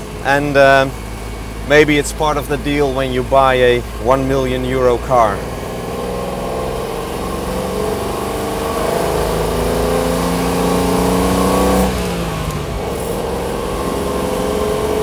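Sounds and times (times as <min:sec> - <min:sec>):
car engine accelerating: 0:00.0 - 0:15.0
wind and road noise: 0:00.0 - 0:15.0.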